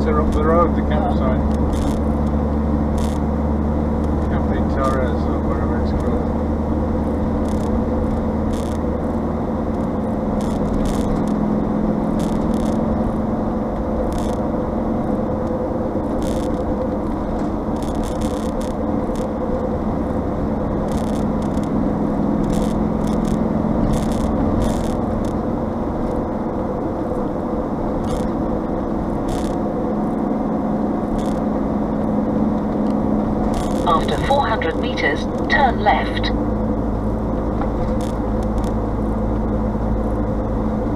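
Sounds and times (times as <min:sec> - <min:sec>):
car engine and tyre drone: 0:00.0 - 0:40.9
constant low hum: 0:00.0 - 0:40.9.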